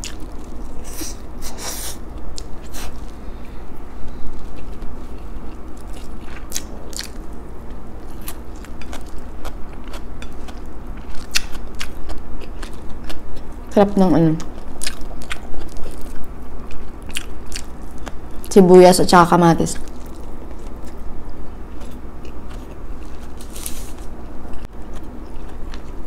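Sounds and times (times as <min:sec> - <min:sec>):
person chewing crunchy food: 0:00.0 - 0:18.5, 0:19.8 - 0:26.0
low hum: 0:00.0 - 0:26.0.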